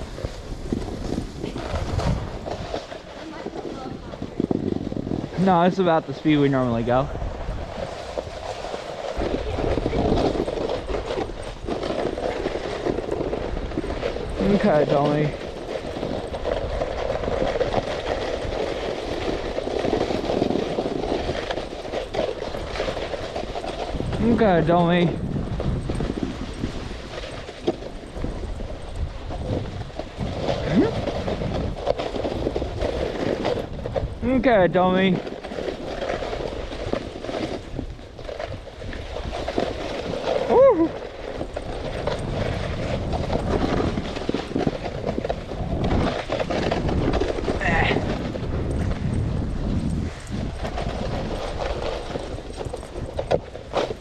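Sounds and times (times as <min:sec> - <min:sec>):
snowboard rumbling over snow: 0:00.0 - 0:54.0.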